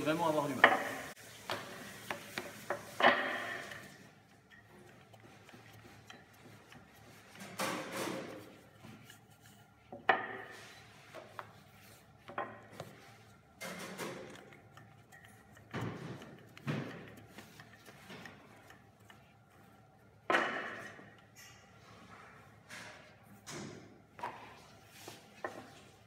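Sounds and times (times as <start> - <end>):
rolling pin rolling dough: 0.5 - 22.5, 23.2 - 26.0.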